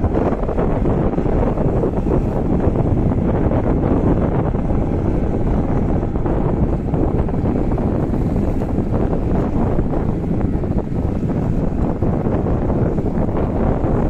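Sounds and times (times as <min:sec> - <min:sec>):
boat rumble: 0:00.0 - 0:14.0
wind buffeting microphone: 0:00.0 - 0:14.0.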